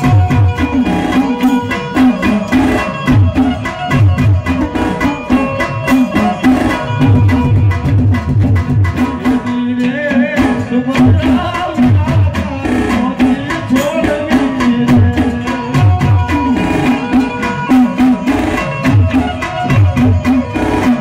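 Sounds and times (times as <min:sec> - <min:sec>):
drums beaten in steady rhythm: 0:00.0 - 0:21.0.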